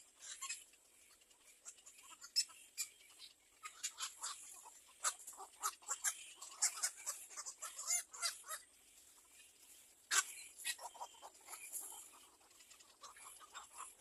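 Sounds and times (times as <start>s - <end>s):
nestling birds chirping: 0.0s - 14.0s.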